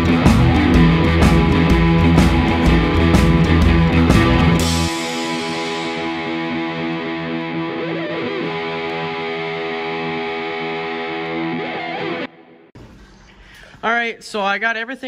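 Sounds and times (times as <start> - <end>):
distorted electric guitar chords: 0.0 - 12.7.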